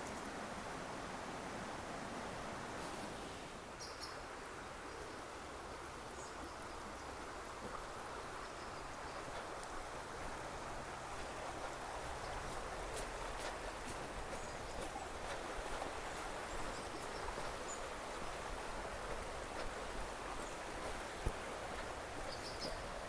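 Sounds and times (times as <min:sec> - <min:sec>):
stream running: 0:00.4 - 0:23.0.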